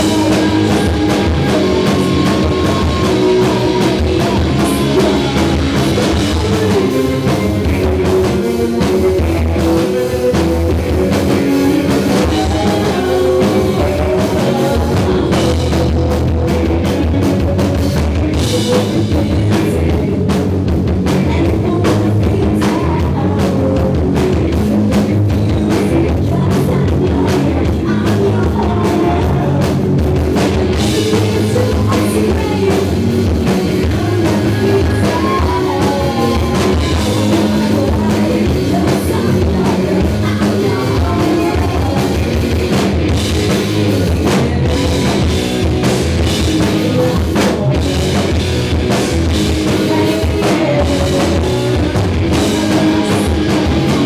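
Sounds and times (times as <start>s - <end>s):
woman singing: 0.0s - 16.0s, 17.0s - 20.2s, 21.1s - 29.8s, 30.4s - 42.9s, 49.5s - 54.0s
drum kit: 0.0s - 54.0s
electric guitars: 0.0s - 54.0s.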